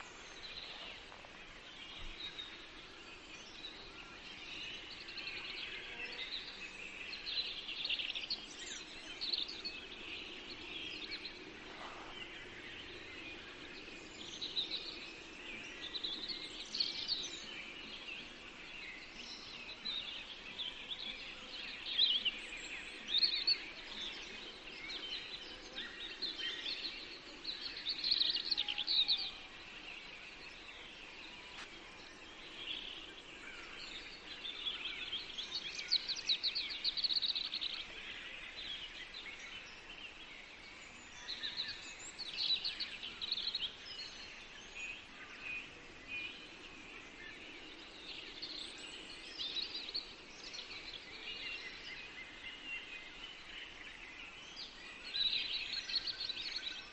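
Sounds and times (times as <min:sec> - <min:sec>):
faint background hiss: 0:00.0 - 0:56.9
songbirds chirping and trilling: 0:00.0 - 0:56.9.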